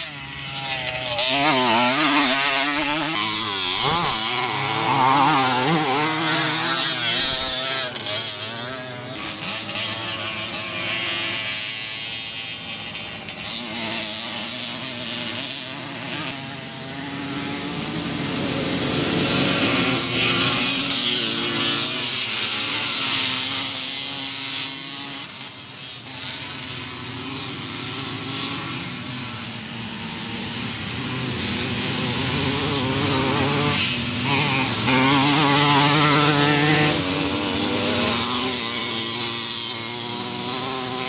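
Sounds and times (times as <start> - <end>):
two-stroke motorcycles racing past: 0.0 - 41.0.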